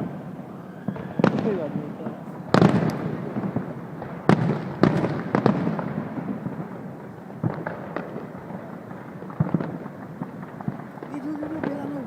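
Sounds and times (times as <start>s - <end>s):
fireworks banging: 0.0s - 12.0s
fireworks crackling: 0.0s - 12.0s
fireworks popping: 0.0s - 12.0s.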